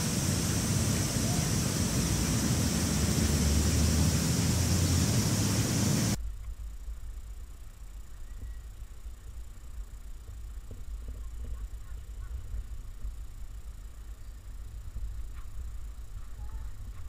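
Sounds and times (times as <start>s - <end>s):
high hiss: 0.0s - 17.0s
low rumble: 0.0s - 17.0s.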